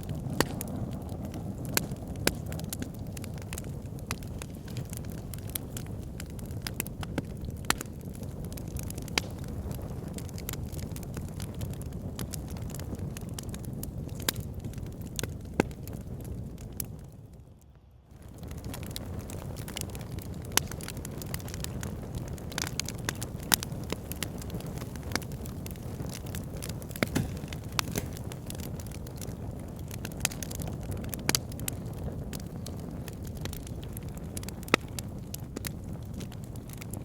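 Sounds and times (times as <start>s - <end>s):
fire crackling and popping: 0.0s - 37.0s
fire pit flame rushing: 0.0s - 37.0s.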